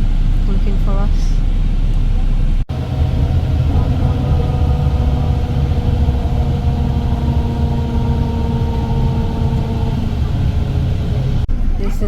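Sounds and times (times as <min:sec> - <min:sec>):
coach engine rumbling: 0:00.0 - 0:12.0.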